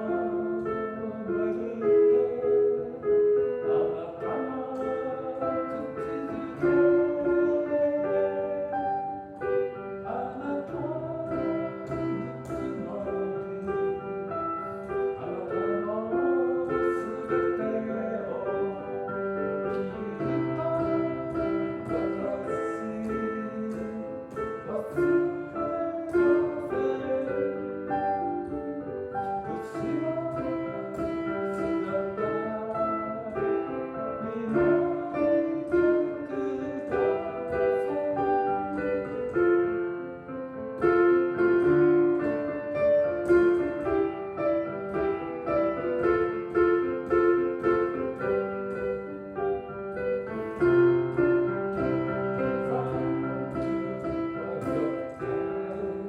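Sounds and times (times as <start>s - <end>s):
piano melody over chords: 0.0s - 56.0s.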